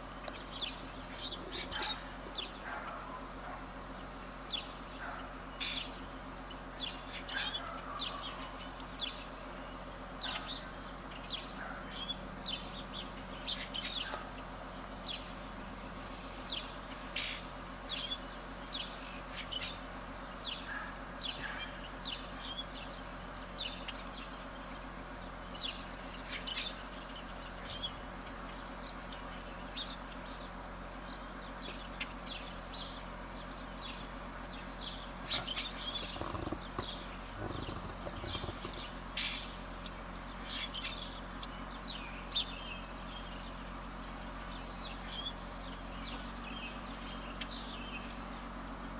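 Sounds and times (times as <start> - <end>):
songbirds chirping: 0.0 - 48.9
steady low hum: 0.0 - 48.9.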